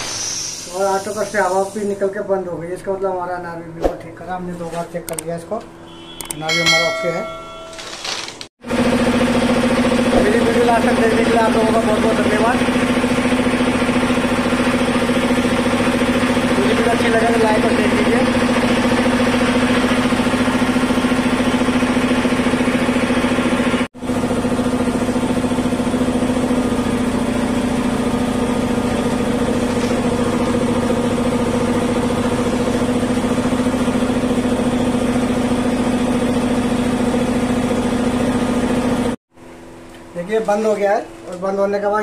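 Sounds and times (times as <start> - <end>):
air compressor humming: 0.0 - 42.0.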